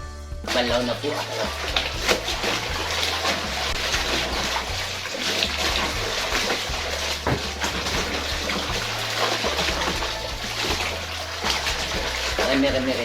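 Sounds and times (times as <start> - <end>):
low hum: 0.0 - 13.0
water sloshing in washing machine: 0.5 - 13.0.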